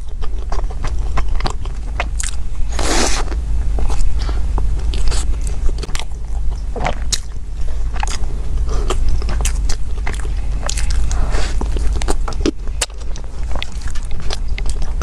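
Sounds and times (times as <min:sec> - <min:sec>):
person chewing with mouth clicks: 0:00.0 - 0:15.0
steady low hum: 0:00.0 - 0:15.0.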